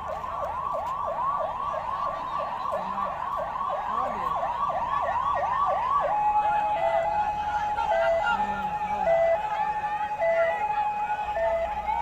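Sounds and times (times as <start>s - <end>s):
emergency siren yelping: 0.0s - 12.0s.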